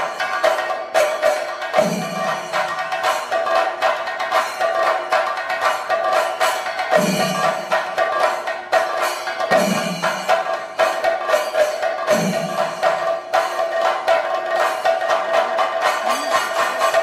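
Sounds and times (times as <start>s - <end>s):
fast drum strokes: 0.0s - 17.0s.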